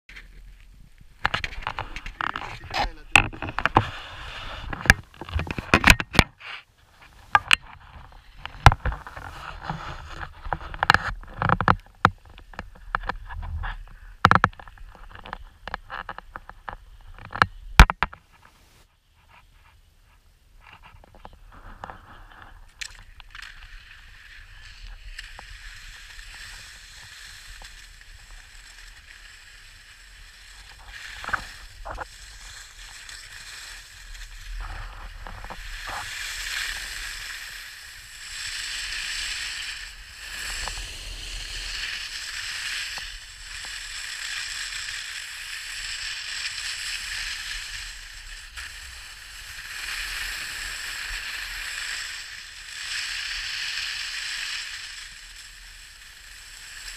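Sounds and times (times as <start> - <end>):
skis scraping over snow: 0.1 - 5.8, 6.4 - 17.6, 20.6 - 56.9.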